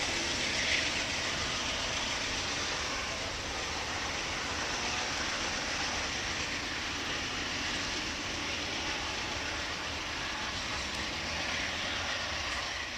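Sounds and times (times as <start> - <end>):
train wheels rolling on rails: 0.0 - 12.9.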